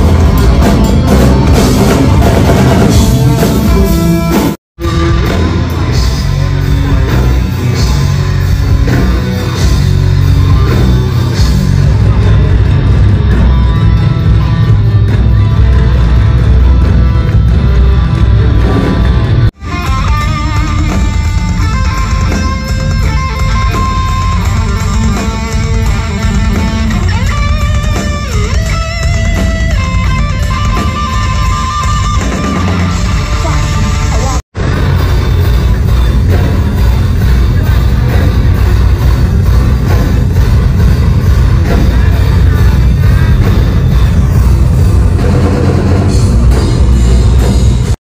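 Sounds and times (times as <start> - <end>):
electric guitar melody: 0.0 - 48.0
heavy metal band playing live: 0.0 - 48.0.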